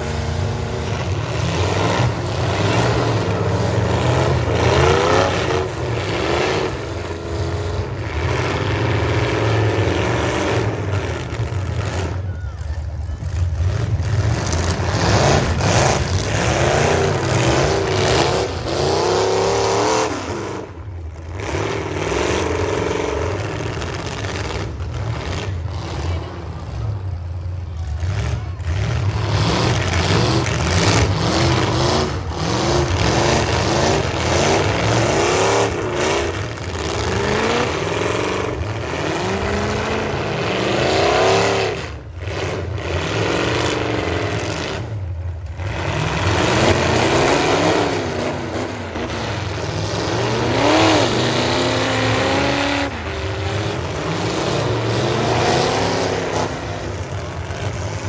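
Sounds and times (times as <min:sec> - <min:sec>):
truck engines revving hard: 0:00.0 - 0:58.0.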